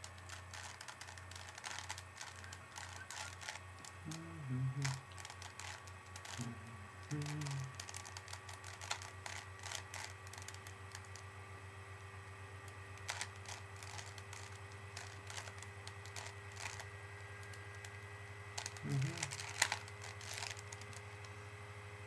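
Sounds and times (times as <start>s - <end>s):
plastic puzzle cube clicking: 0.0s - 11.2s, 13.0s - 17.9s, 18.6s - 21.4s.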